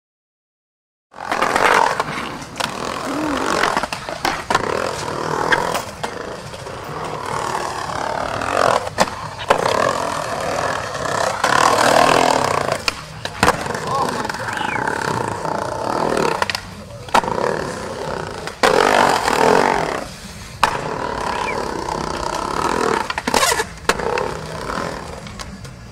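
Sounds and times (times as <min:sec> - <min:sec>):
skateboard wheels rolling on concrete: 0:01.1 - 0:25.9
skateboard clacking on ground: 0:01.2 - 0:25.9.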